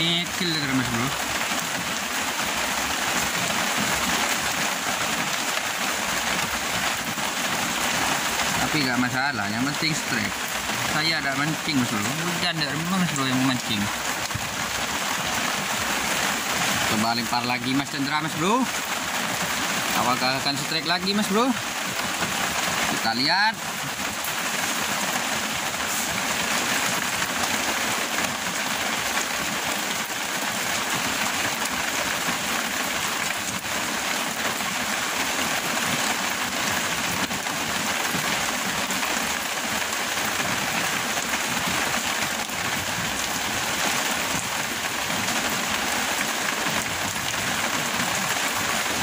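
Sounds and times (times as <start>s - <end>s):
heavy rain on leaves and water: 0.0s - 49.0s.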